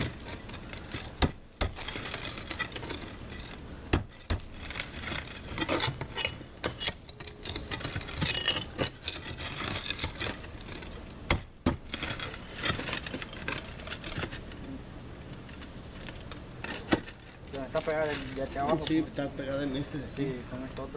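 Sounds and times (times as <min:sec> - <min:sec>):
pry bar scraping on tiles: 0:00.0 - 0:14.6, 0:16.0 - 0:19.1.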